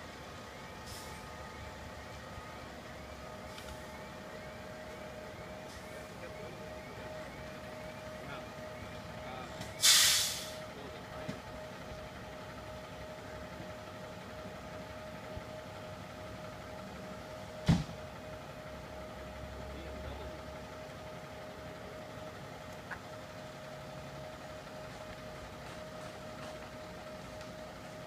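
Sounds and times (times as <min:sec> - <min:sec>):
constant mid-pitched tone: 0:00.0 - 0:09.8, 0:10.6 - 0:28.0
fire truck engine idling: 0:00.0 - 0:28.0.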